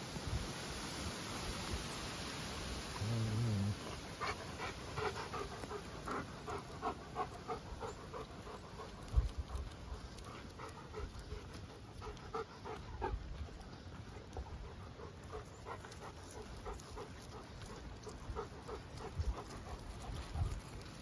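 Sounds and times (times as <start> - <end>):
dog panting: 3.8 - 21.0.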